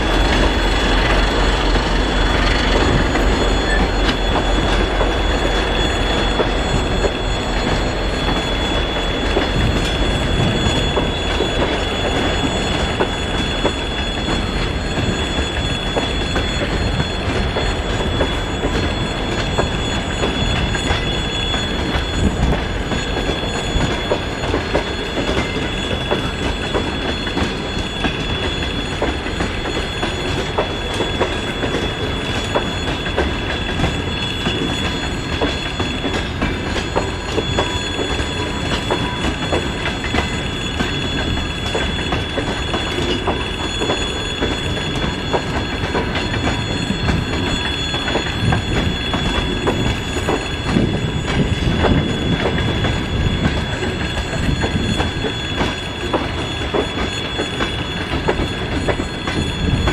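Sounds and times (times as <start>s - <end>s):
steady high-pitched tone: 0.0s - 59.9s
train wheels clattering over rails: 0.0s - 59.9s.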